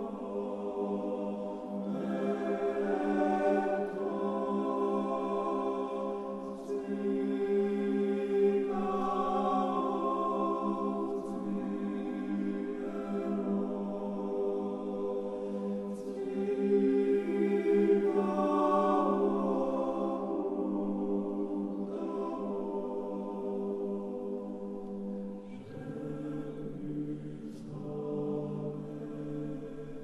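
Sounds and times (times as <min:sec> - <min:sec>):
choir chanting unaccompanied: 0:00.0 - 0:30.0.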